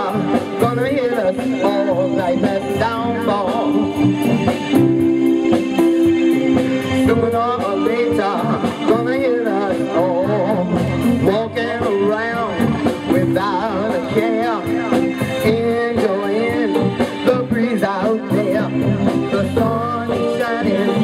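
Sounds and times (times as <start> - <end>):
drum kit: 0.0 - 21.0
electric guitar: 0.0 - 21.0
keyboard chords: 0.0 - 21.0
person singing: 0.0 - 21.0.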